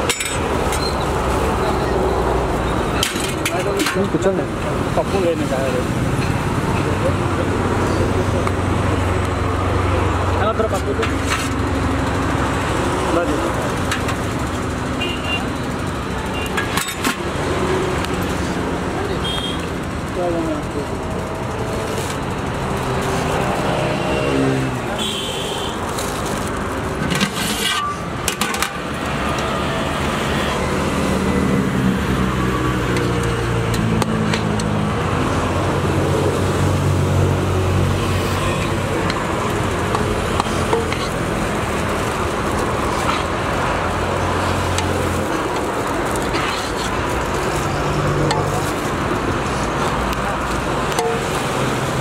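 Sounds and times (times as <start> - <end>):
roadside traffic: 0.0 - 52.0
vehicle engine humming: 0.0 - 52.0.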